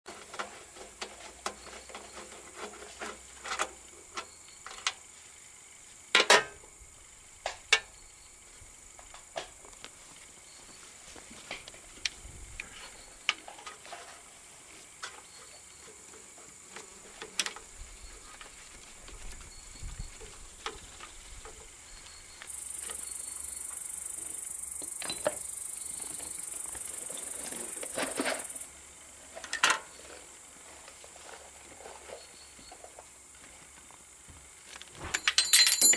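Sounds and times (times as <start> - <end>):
steady high hiss: 0.4 - 35.9.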